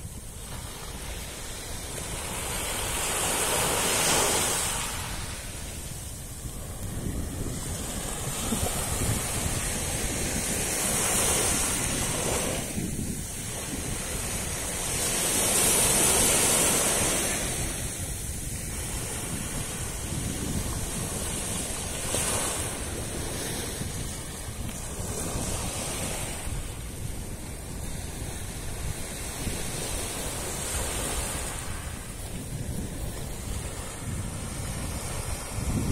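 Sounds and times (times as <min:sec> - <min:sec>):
small waves breaking on beach: 0:00.0 - 0:35.9
wind rumble on microphone: 0:00.0 - 0:35.9.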